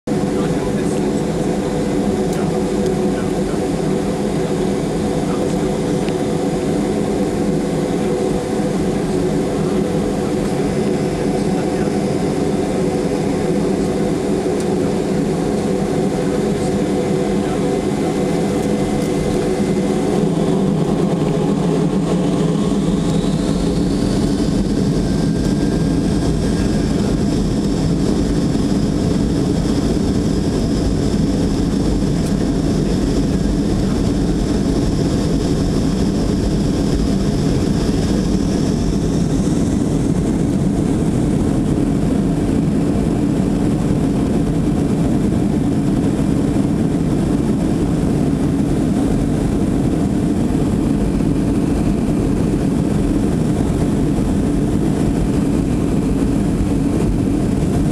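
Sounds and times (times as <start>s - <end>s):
jet engine whine: 0.0s - 57.9s
airliner engines droning: 0.1s - 57.9s.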